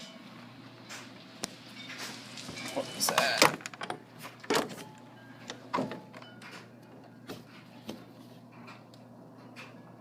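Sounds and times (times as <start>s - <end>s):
low steady background noise: 0.0s - 10.0s.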